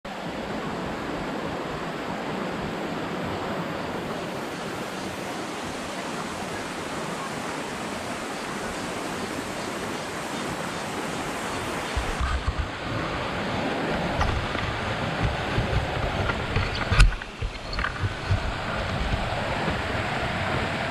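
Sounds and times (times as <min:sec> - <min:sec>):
stream flowing over stones: 0:00.2 - 0:20.9.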